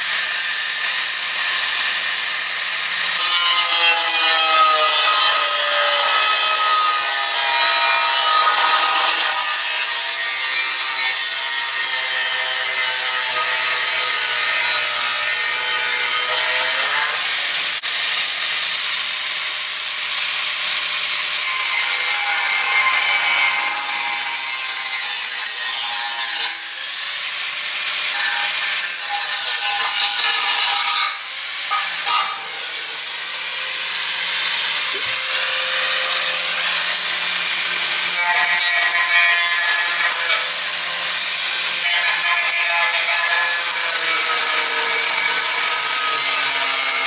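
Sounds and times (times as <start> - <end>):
rotary tool grinding metal: 0.0 - 47.0.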